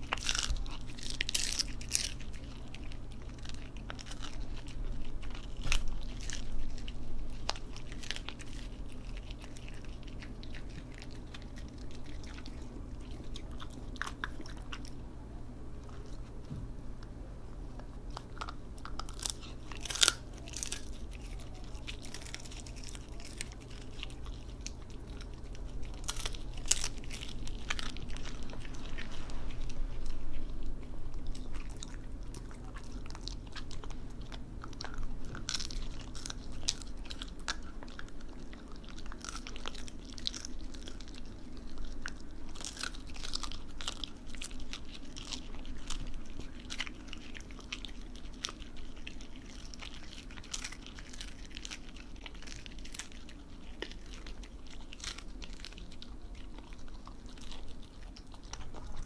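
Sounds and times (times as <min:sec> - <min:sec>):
dog crunching fish treat: 0:00.0 - 0:15.1, 0:17.7 - 0:59.0.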